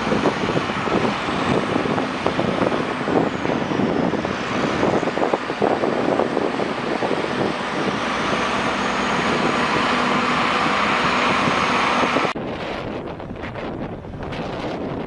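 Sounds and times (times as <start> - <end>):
vehicle engine and road noise: 0.0 - 15.0
wind buffeting microphone: 0.0 - 15.0.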